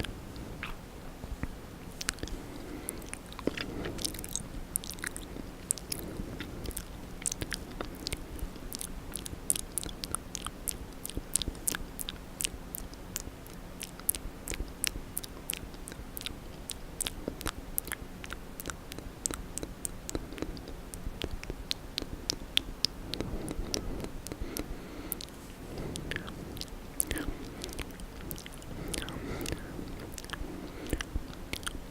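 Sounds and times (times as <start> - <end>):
wet mouth clicks and smacks: 0.0 - 0.8, 1.4 - 31.8.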